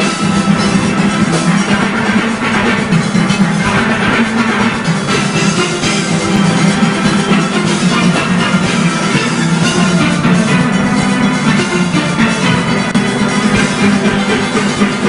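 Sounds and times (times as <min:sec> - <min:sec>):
deep bass pans: 0:00.0 - 0:15.0
drum kit and percussion: 0:00.0 - 0:15.0
steel pans playing: 0:00.0 - 0:15.0.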